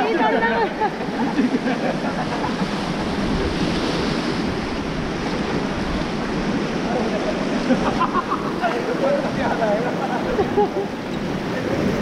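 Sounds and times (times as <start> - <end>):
rushing river water: 0.0 - 12.0
wind buffeting microphone: 2.1 - 12.0.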